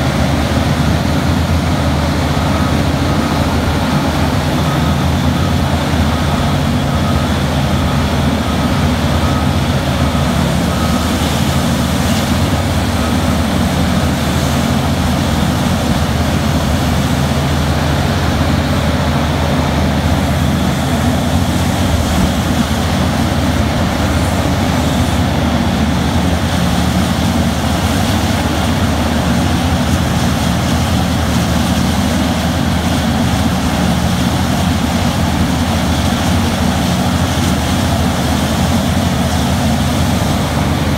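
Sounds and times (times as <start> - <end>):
mining shovel engine drone: 0.0 - 40.9.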